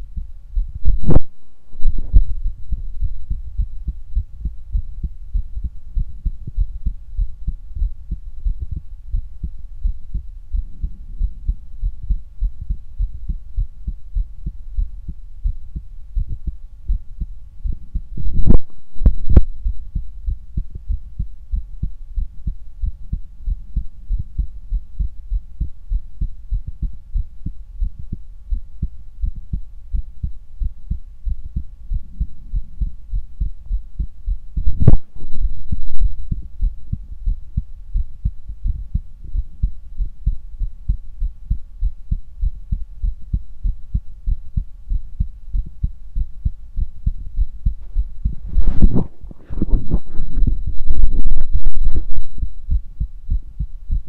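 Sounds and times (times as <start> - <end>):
heartbeat through stethoscope: 0.0 - 54.0.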